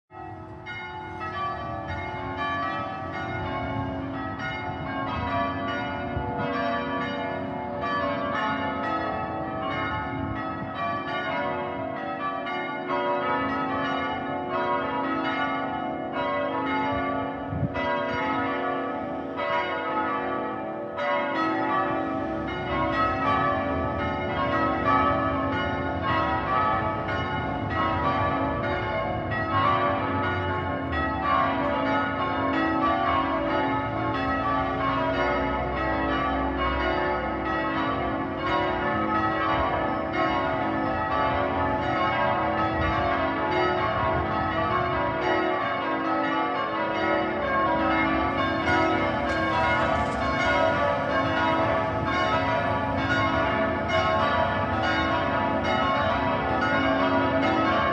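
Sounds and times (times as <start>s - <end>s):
church bells ringing: 0.1s - 57.9s.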